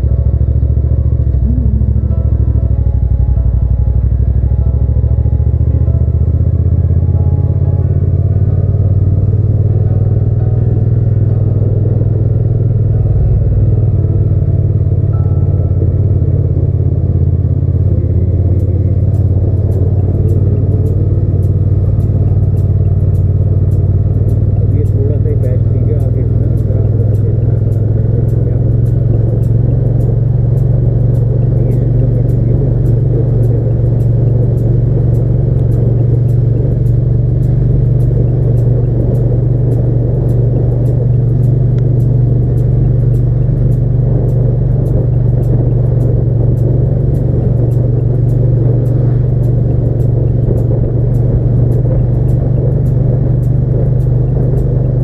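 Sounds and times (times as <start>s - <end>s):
motorcycle engine droning: 0.0s - 55.0s
road and wind noise: 0.0s - 55.0s.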